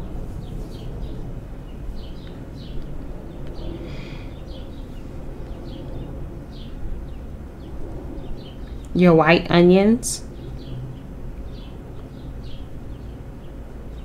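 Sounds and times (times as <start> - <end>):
low rumble: 0.0 - 14.0
small birds chirping: 0.0 - 14.0.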